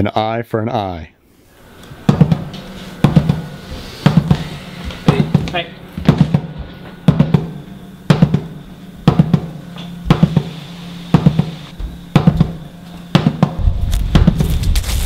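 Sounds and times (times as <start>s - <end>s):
drum kit playing steady beat: 2.0s - 14.6s.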